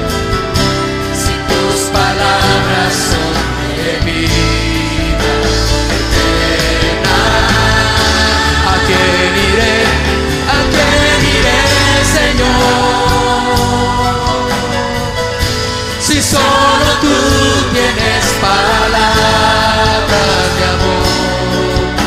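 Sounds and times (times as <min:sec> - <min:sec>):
band playing worship song: 0:00.0 - 0:22.0
people singing: 0:01.0 - 0:22.0.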